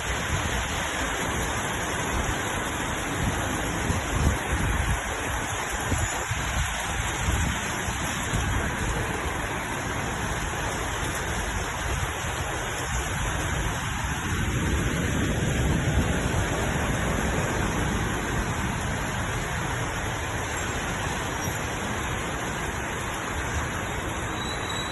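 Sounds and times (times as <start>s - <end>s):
heavy rain: 0.0s - 24.9s.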